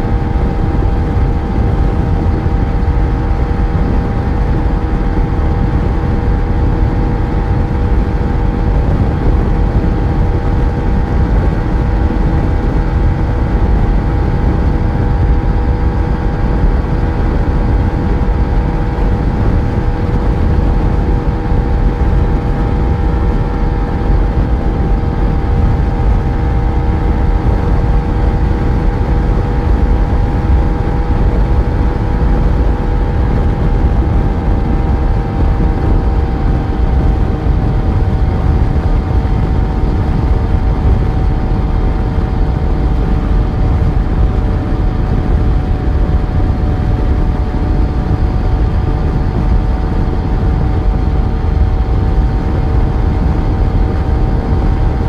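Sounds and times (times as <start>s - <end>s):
heavy wind noise: 0.0s - 55.0s
motorcycle engine running: 0.0s - 55.0s
road rumble: 0.0s - 55.0s.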